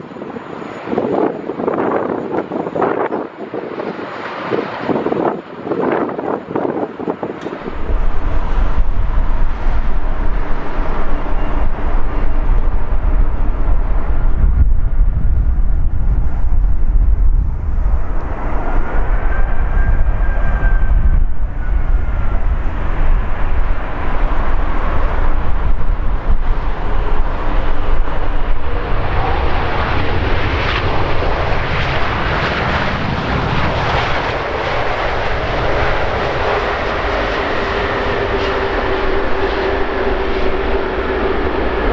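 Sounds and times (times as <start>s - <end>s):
faint engine whine: 0.0s - 41.9s
jet engines passing: 0.0s - 41.9s.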